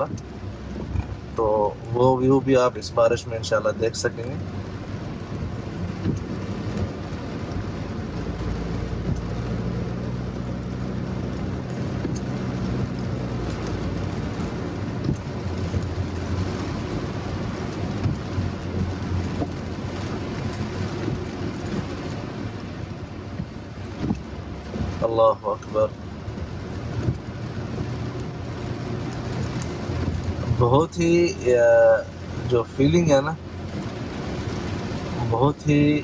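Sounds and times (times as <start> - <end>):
car engine hum: 0.0 - 36.0
heavy rain: 0.0 - 36.0
tyres hissing on wet road: 0.0 - 36.0.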